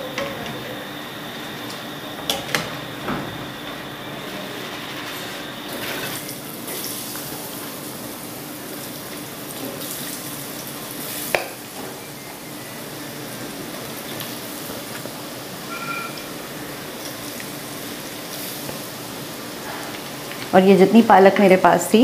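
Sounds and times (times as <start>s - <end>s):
hot oil sizzling and bubbling: 3.6s - 22.0s.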